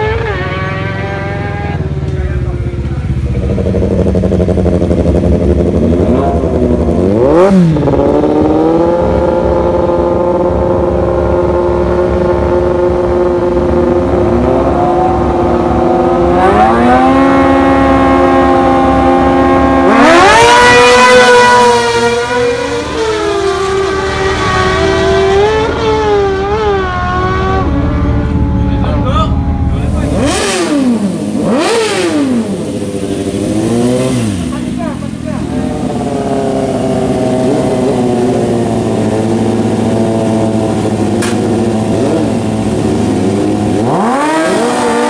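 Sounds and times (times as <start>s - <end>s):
motorcycle engines revving: 0.0s - 45.0s.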